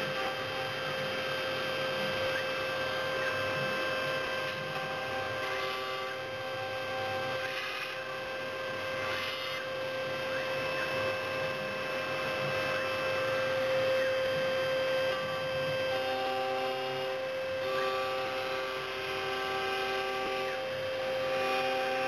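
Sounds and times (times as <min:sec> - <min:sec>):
cutter working through material: 0:00.0 - 0:22.0
milling machine spindle whine: 0:00.0 - 0:22.0.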